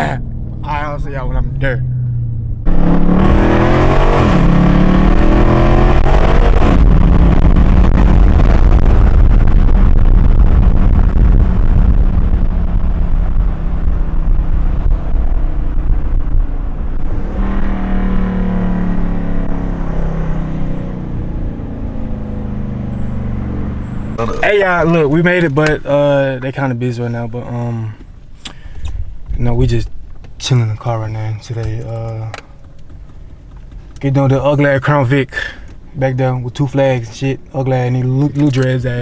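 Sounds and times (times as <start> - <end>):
car engine accelerating: 0.0 - 39.0
low road rumble: 0.0 - 39.0.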